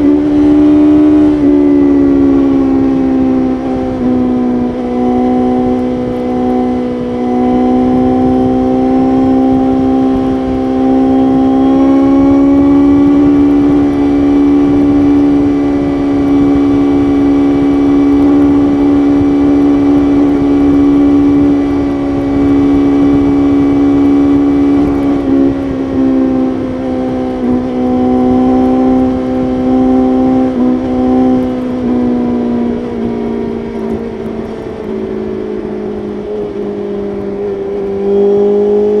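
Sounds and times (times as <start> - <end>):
motorcycle engine at high revs: 0.0 - 39.0
wind noise: 0.0 - 39.0.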